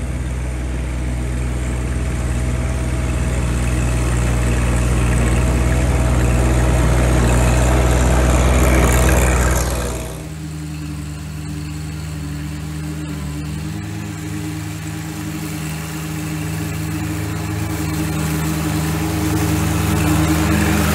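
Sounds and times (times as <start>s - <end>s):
mower deck cutting grass: 0.0s - 10.4s, 13.0s - 20.9s
tractor diesel engine running: 0.0s - 20.9s.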